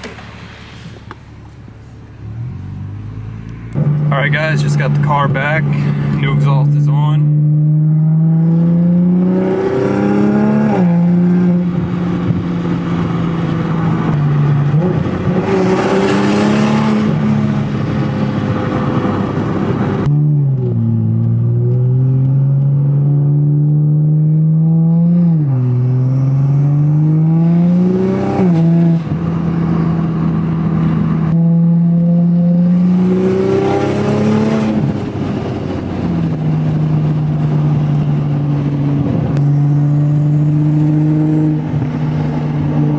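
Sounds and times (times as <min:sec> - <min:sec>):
car exhaust while driving: 0:00.0 - 0:42.9.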